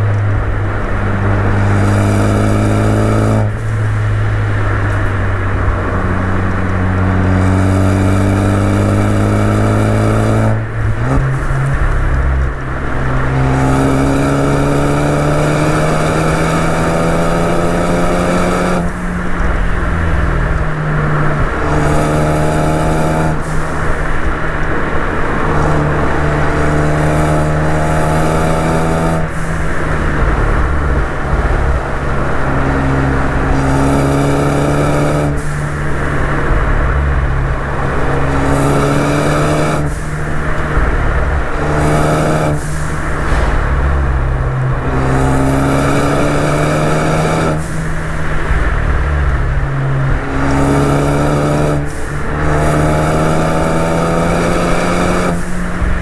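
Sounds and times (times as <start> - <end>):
car engine revving hard: 0.0 - 56.0
road and wind noise: 0.0 - 56.0.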